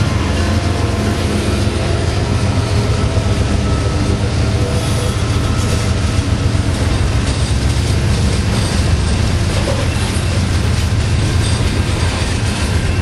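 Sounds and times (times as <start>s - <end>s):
locomotive engines running loud: 0.0s - 13.0s
wheels on rails: 0.0s - 13.0s.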